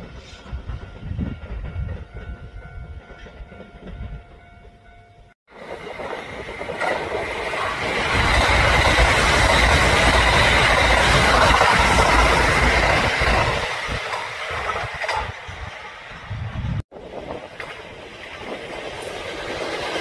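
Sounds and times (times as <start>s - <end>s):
train running on rails: 0.0s - 20.0s.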